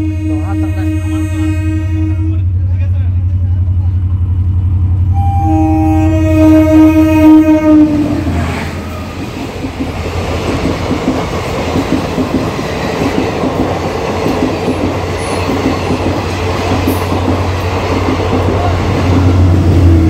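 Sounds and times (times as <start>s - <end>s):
steady low train hum: 0.0s - 20.0s
wheels rumbling on rails: 2.3s - 20.0s.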